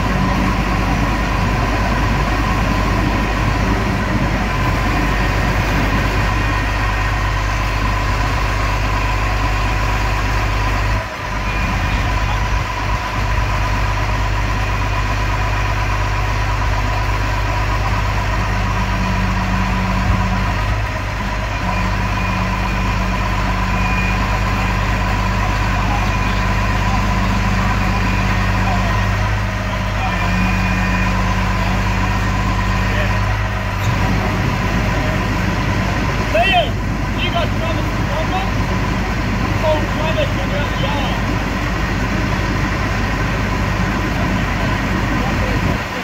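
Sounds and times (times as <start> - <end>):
diesel engine running: 0.0 - 46.0
winch whine: 0.0 - 46.0.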